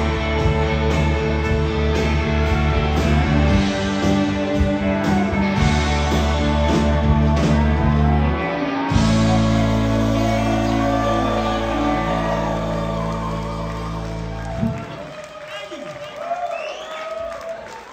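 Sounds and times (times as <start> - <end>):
rock band playing: 0.0 - 15.2.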